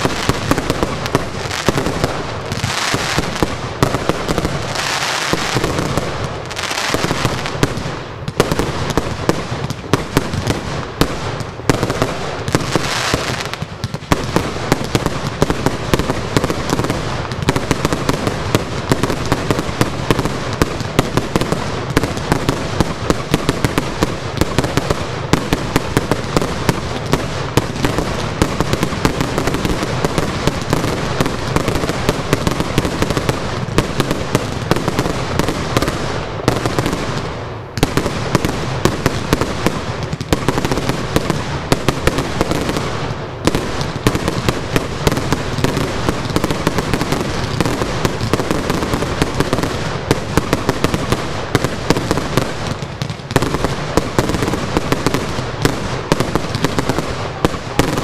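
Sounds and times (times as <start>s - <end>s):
fireworks launches and bursts: 0.0s - 58.0s.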